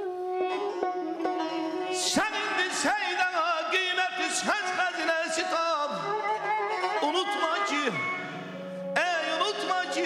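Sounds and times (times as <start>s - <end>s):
plucked string instrument: 0.0s - 10.0s.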